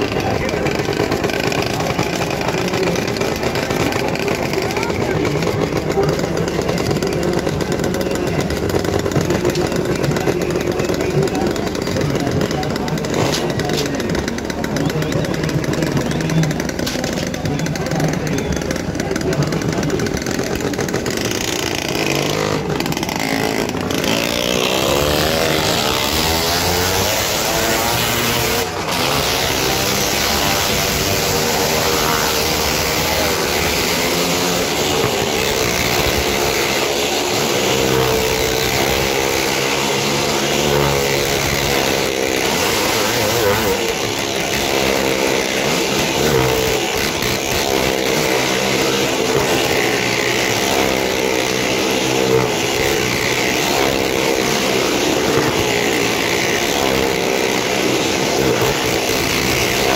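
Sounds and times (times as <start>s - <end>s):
car and motorcycle engines revving: 0.0s - 59.9s.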